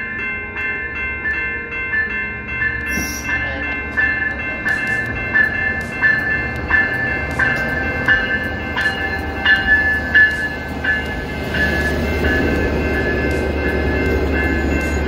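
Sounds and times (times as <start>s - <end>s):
low rumble of train: 0.0s - 15.0s
train bell ringing: 0.0s - 15.0s.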